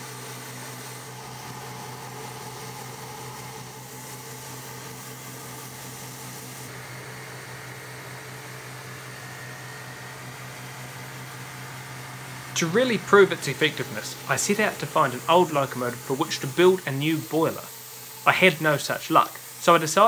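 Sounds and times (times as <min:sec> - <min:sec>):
boiler steam hissing: 0:00.0 - 0:20.0.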